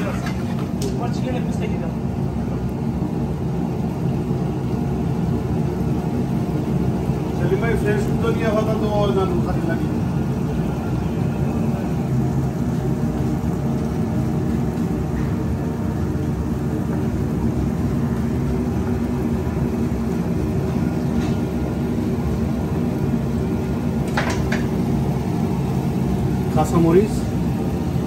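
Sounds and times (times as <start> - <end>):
kitchen machine hum: 0.0 - 28.0.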